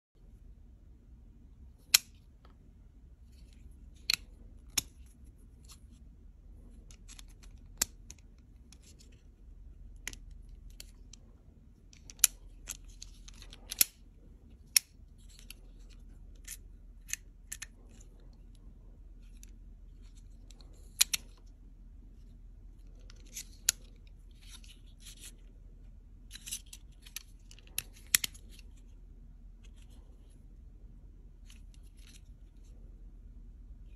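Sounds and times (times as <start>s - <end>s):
faint low hum: 0.2s - 33.9s.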